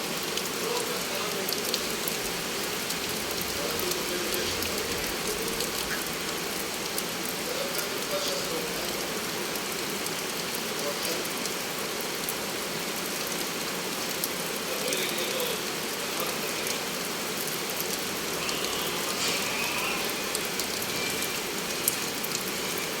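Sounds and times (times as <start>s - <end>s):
heavy rain falling: 0.0s - 23.0s
raindrops ticking on hard surfaces: 0.0s - 23.0s.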